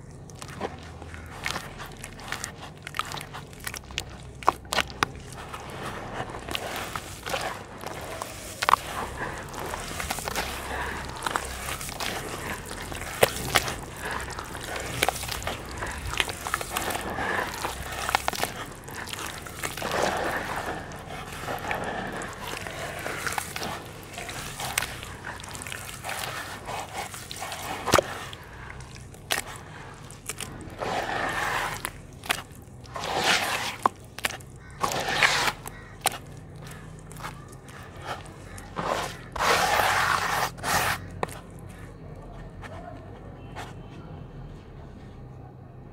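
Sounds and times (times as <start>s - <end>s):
hands squelching wet dirt: 0.0s - 44.0s
small water splashes: 0.2s - 41.3s.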